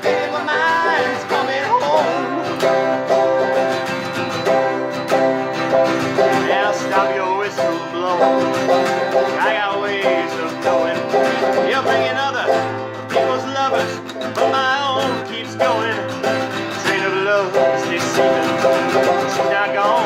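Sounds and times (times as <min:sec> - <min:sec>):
banjo picking: 0:00.0 - 0:20.0
strummed acoustic strings: 0:00.0 - 0:20.0.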